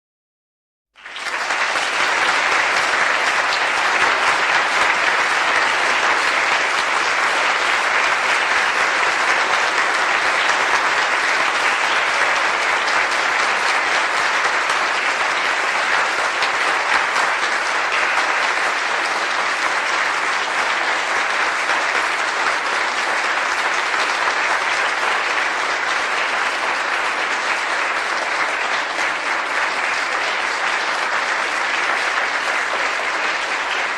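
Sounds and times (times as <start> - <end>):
crowd applauding: 0.9 - 33.9.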